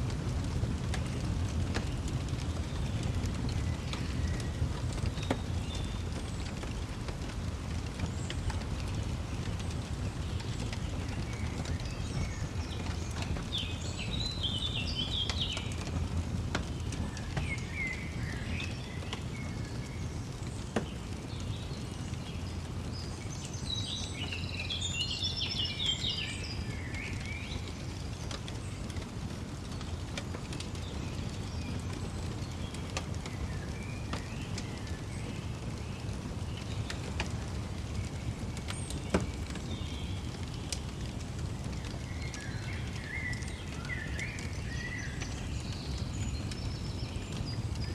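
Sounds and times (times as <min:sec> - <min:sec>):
wood fire crackling and popping: 0:00.0 - 0:47.9
songbirds twittering: 0:00.1 - 0:47.9.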